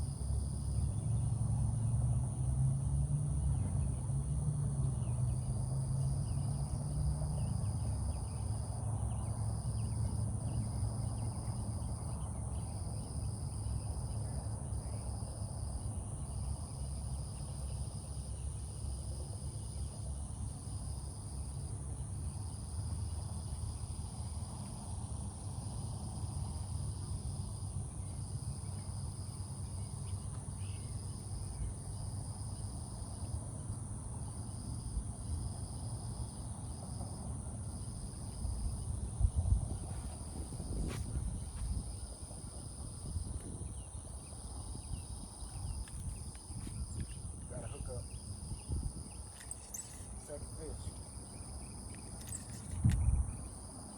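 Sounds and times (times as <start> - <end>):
insects trilling: 3.5 - 53.9.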